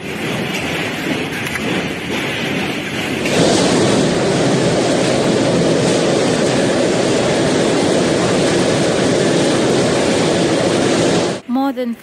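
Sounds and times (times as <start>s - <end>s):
hail and heavy rain pelting: 0.0s - 11.4s.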